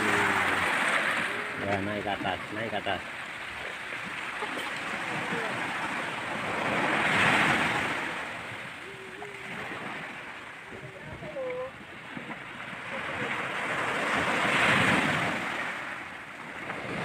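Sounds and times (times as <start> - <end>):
small waves washing on beach: 0.0 - 17.0.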